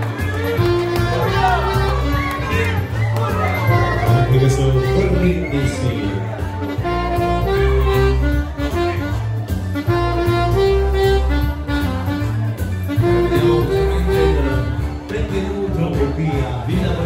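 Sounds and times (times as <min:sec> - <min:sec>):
saxophone melody: 0:00.0 - 0:15.4
backing music with bass line: 0:00.0 - 0:17.0.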